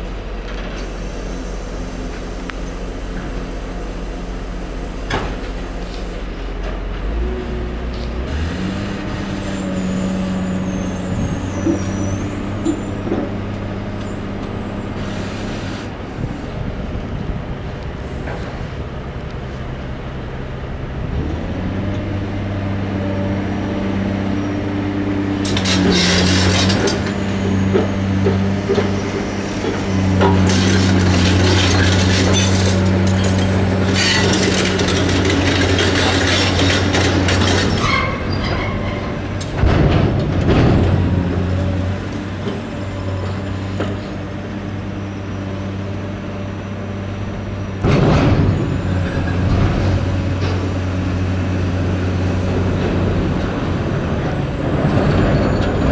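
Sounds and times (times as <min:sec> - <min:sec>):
truck diesel engine hum: 0:00.0 - 0:55.9.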